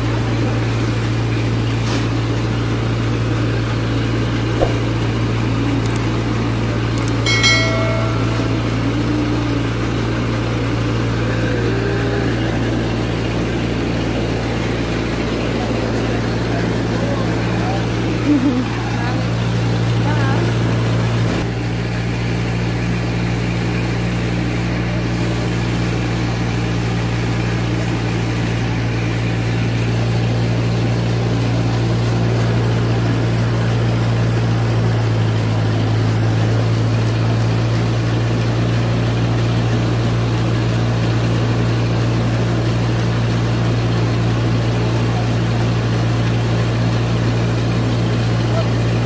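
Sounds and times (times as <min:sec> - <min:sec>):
rice mill machinery drone: 0:00.0 - 0:49.0.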